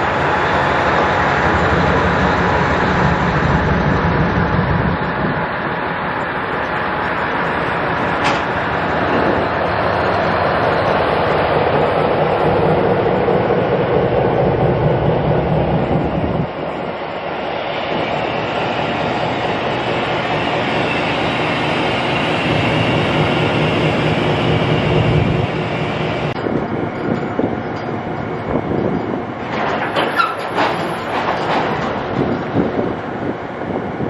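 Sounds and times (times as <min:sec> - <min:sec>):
diesel locomotive engine: 0:00.0 - 0:34.0
railcars rolling past: 0:00.0 - 0:34.0.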